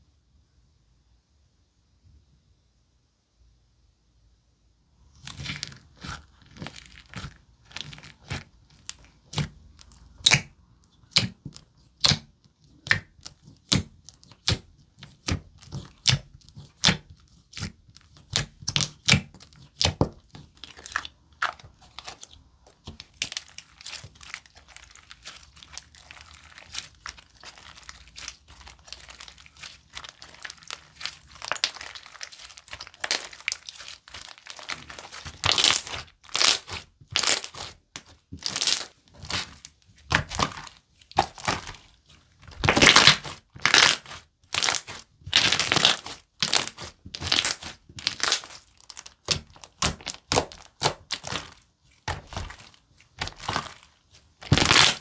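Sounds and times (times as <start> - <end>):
slime crackling: 5.2 - 55.0
slime popping: 5.2 - 55.0.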